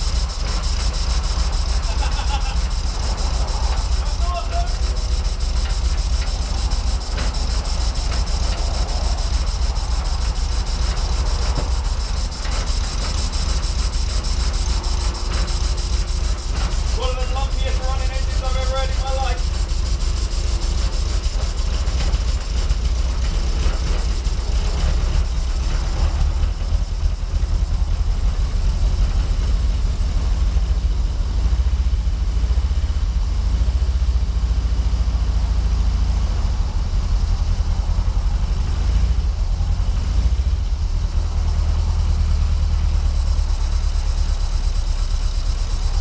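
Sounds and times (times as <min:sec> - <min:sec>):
petrol engine idling: 0:00.0 - 0:46.0.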